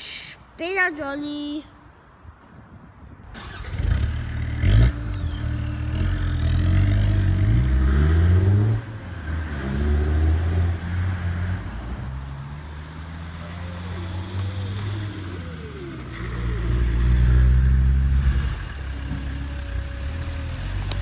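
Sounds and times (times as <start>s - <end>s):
car engine revving: 3.4s - 21.0s.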